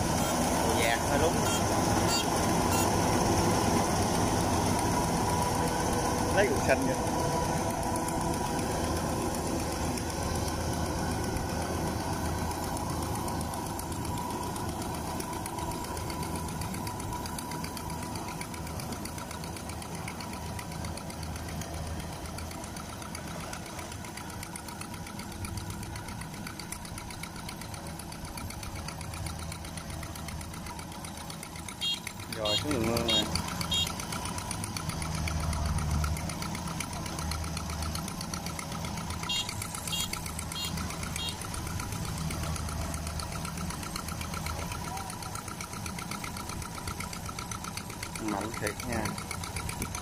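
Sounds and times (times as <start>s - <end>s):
combine harvester mechanical drone: 0.0s - 50.0s.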